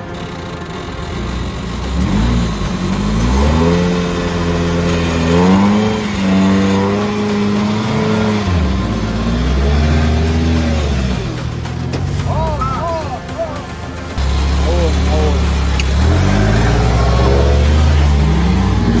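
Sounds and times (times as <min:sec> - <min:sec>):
engine revving hard: 0:00.0 - 0:19.0.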